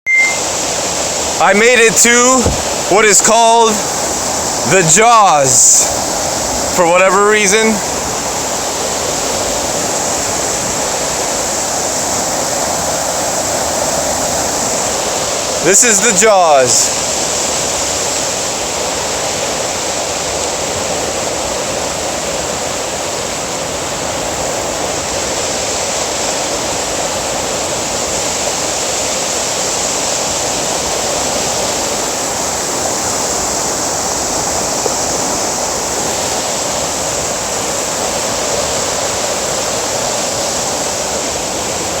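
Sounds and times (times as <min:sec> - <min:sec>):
waterfall rushing: 0:00.1 - 0:42.0.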